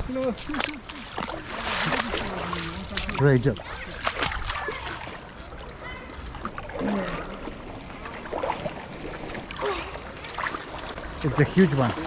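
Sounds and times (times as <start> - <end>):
water splashing and flowing: 0.0 - 12.0.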